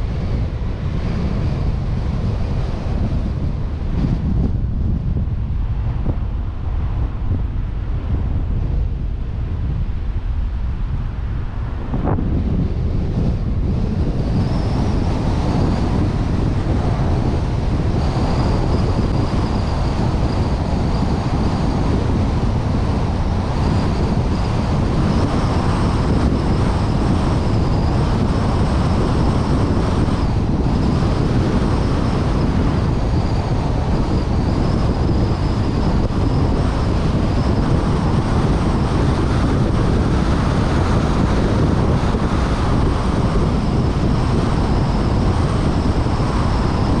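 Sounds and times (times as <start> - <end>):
road and engine noise: 0.0 - 47.0
wind buffeting microphone: 0.0 - 47.0.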